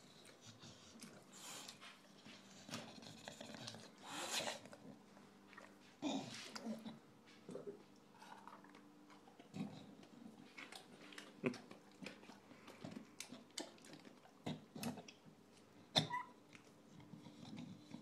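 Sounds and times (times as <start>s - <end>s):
dog chewing and licking: 0.0s - 18.0s.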